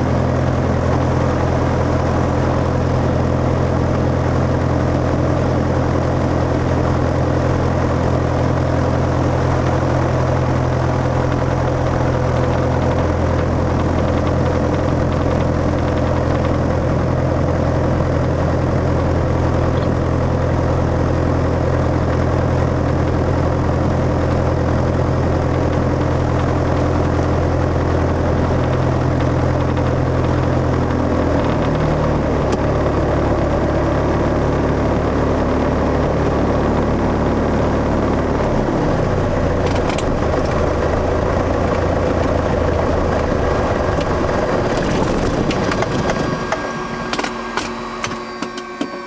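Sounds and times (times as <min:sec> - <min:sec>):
aircraft engine idling: 0:00.0 - 0:49.0.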